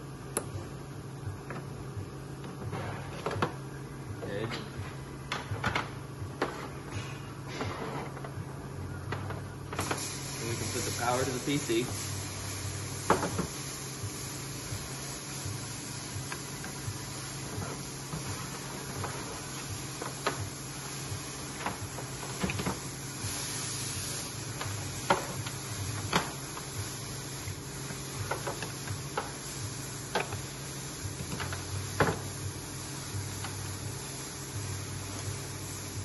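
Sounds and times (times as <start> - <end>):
background hum and hiss: 0.0 - 36.0.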